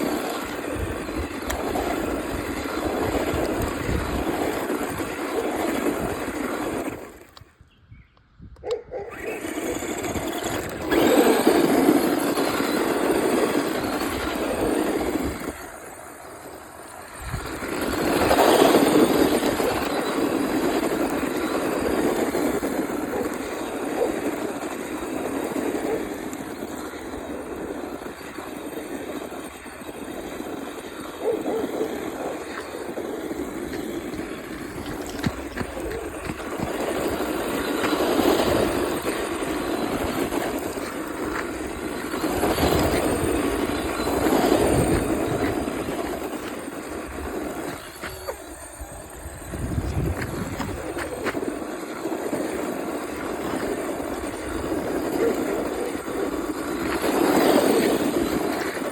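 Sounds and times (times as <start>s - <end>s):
tyres sliding: 0.0s - 7.4s, 9.1s - 58.9s
remote control car motor: 0.0s - 7.6s, 8.6s - 58.9s.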